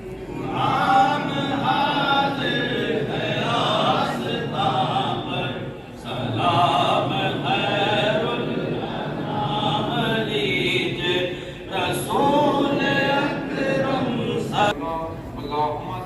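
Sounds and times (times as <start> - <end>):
men chanting together: 0.4 - 14.8.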